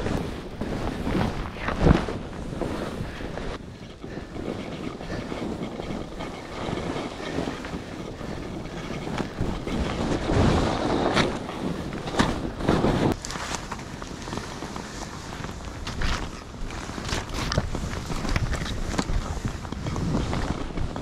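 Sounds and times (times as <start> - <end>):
skis sliding over snow: 0.0 - 21.0
wind on microphone: 0.0 - 21.0.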